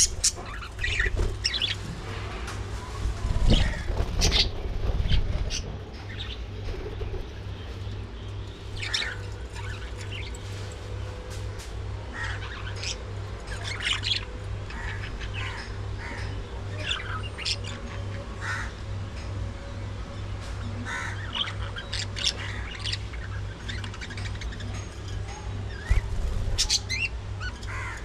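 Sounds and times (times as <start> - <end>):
budgerigars chirping and squawking: 0.0 - 1.9, 3.2 - 11.4, 12.1 - 19.0, 20.6 - 28.0
low pulsing hum: 0.0 - 28.0.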